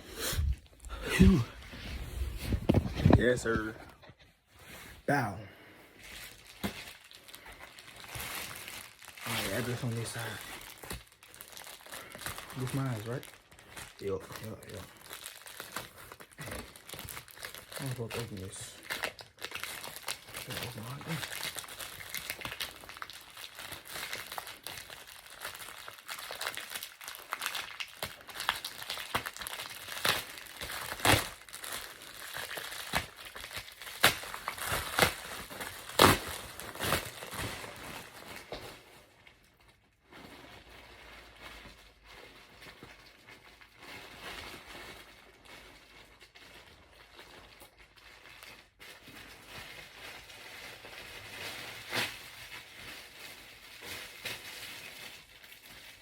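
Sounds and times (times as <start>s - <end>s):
package wrapping crinkling: 0.6s - 4.0s, 6.1s - 56.0s
wrapping snapping and ripping: 6.1s - 56.0s.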